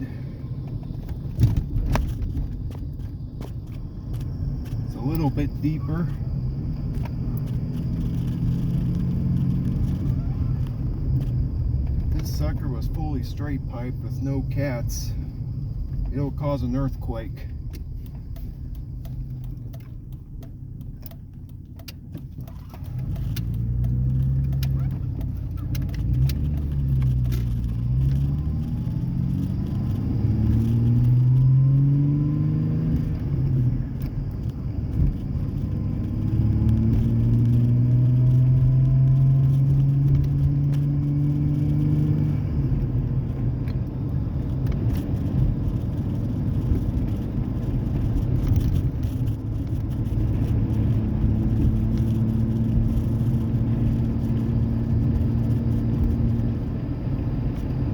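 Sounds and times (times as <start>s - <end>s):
truck exhaust accelerating: 0.0s - 57.9s.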